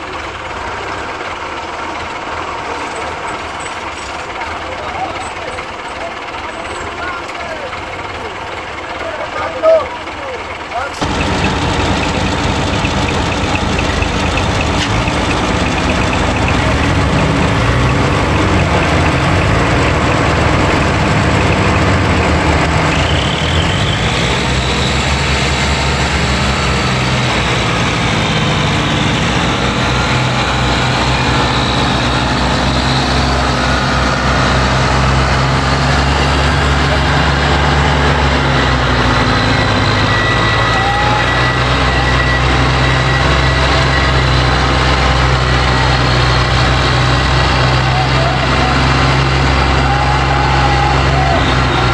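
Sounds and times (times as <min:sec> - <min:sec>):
diesel tractors under load: 0:00.0 - 0:51.9.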